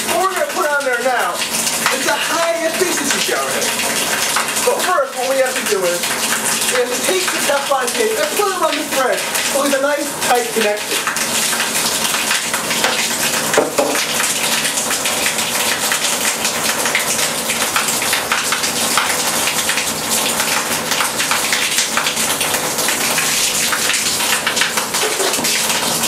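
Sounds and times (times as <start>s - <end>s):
water spraying from shower arm: 0.0s - 26.0s.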